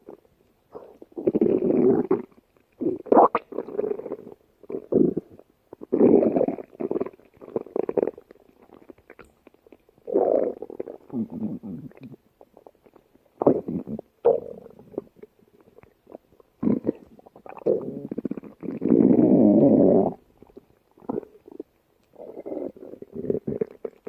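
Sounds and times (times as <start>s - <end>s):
stomach growling: 0.0s - 24.0s.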